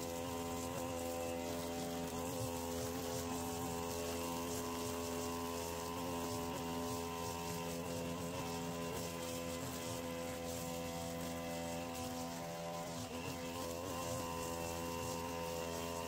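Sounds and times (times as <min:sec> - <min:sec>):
string trimmer engine droning: 0:00.0 - 0:16.0.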